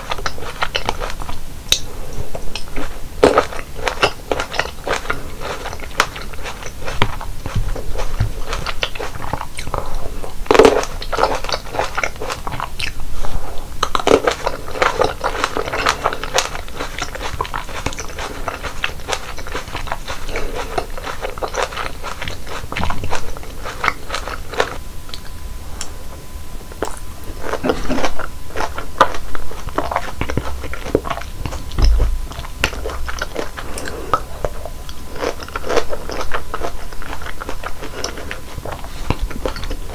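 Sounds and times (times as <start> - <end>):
biting and chewing fruit: 0.0 - 26.0, 26.6 - 39.9.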